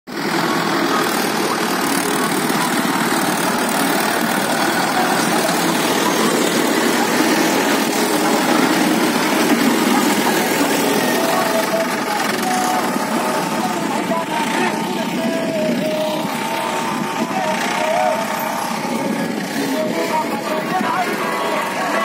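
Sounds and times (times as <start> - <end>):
diesel tractor engines running: 0.1 - 22.0.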